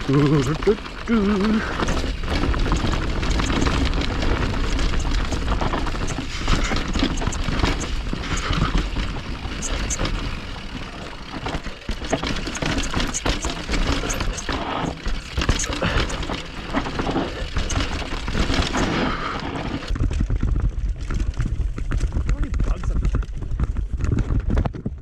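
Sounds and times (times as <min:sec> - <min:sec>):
mountain bike rattling: 0:00.0 - 0:25.0.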